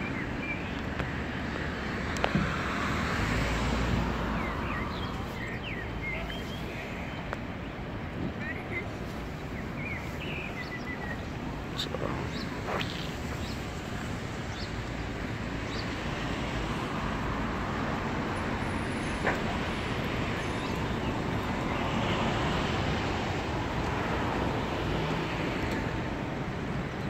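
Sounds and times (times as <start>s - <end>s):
road traffic: 0.0s - 27.0s
bus engine: 1.6s - 27.0s.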